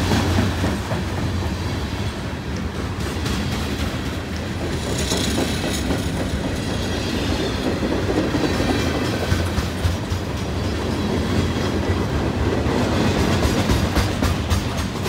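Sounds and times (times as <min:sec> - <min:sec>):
clickety-clack over rail joints: 0:00.0 - 0:15.0
rumble of train wheels on rails: 0:00.0 - 0:15.0.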